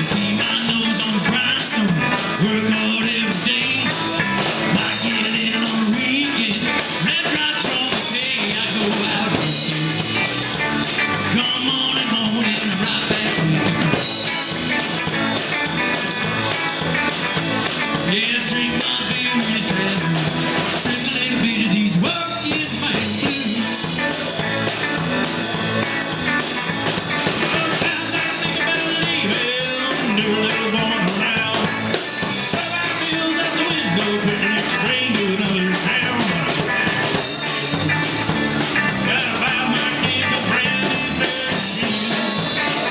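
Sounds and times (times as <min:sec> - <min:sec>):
drum kit: 0:00.0 - 0:42.9
electric guitar: 0:00.0 - 0:42.9.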